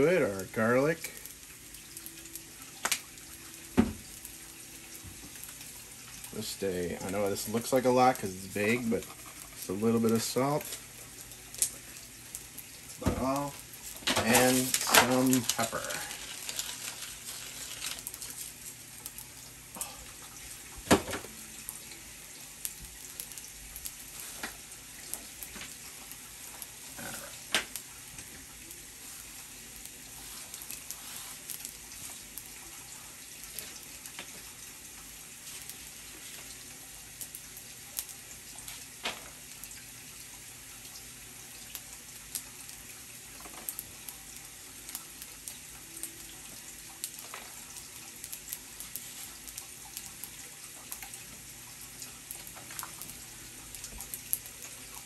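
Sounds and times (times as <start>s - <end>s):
rice sizzling on a griddle: 0.0s - 55.0s
sharp crackles and pops: 0.0s - 55.0s.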